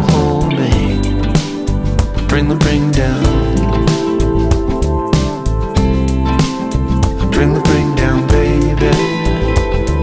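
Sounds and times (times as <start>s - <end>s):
instrumental song with drum beat: 0.0s - 10.0s.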